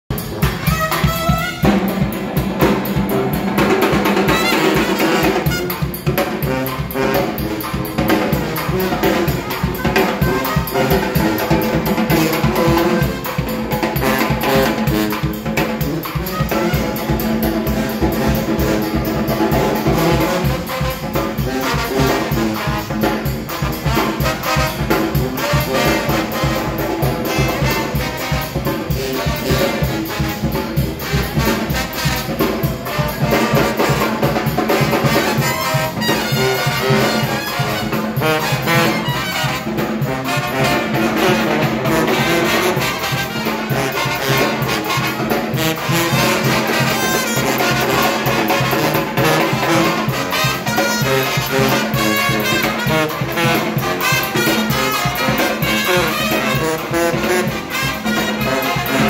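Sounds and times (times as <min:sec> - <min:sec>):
bass drum and snare beat: 0:00.1 - 0:59.0
sousaphones and trombone: 0:00.1 - 0:59.0.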